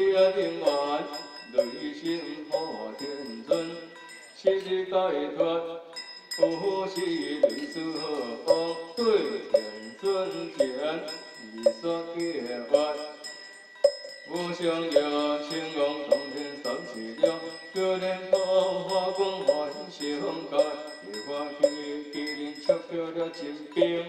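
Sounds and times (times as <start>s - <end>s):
scripture chanting: 0.0s - 13.3s, 14.3s - 24.0s.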